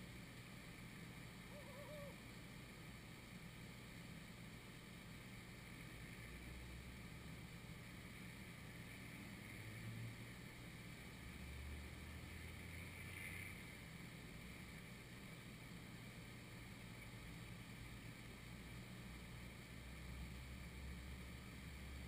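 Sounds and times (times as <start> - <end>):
light hiss: 0.0 - 22.0
low steady rumble: 0.0 - 22.0.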